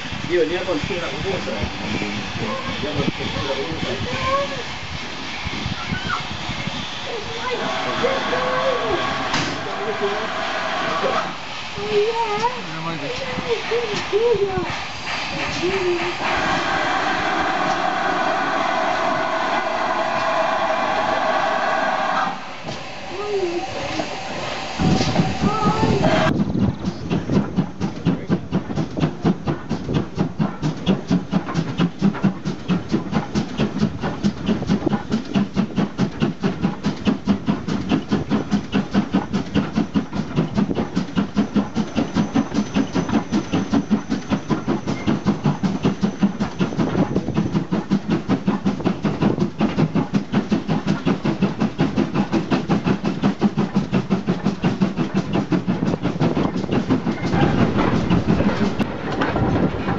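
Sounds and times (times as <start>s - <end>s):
steam train running: 0.0s - 59.9s.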